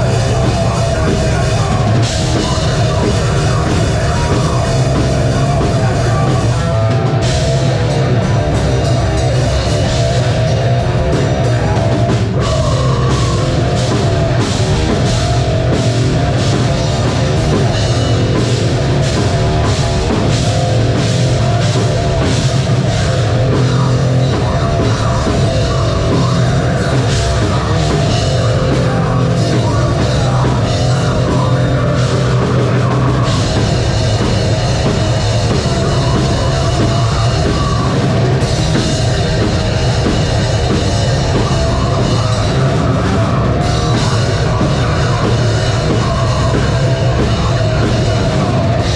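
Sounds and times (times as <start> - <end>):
fast dense drum hits: 0.0 - 48.9
live metal band playing: 0.0 - 48.9.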